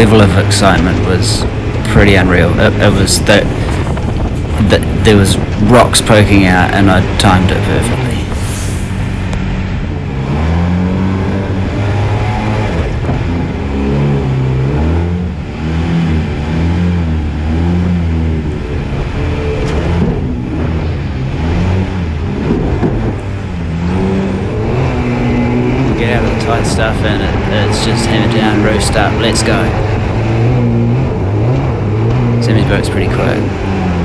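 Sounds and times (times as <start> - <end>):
jet boat engine revving: 0.0 - 34.0.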